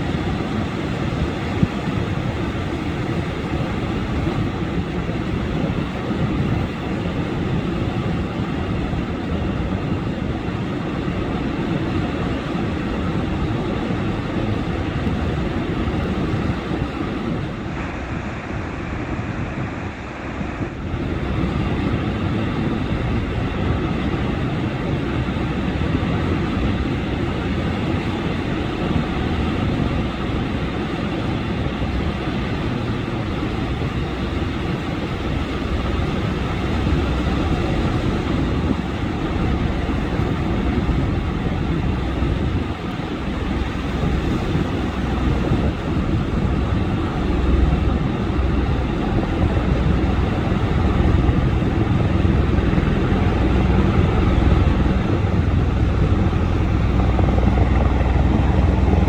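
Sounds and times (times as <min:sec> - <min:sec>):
helicopter rotors and turbines: 0:00.0 - 0:59.0.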